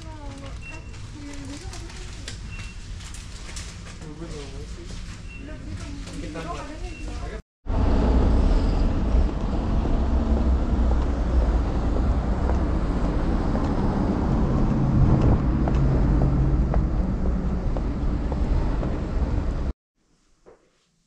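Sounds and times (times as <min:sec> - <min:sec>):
low rumble of traffic: 0:00.0 - 0:19.7.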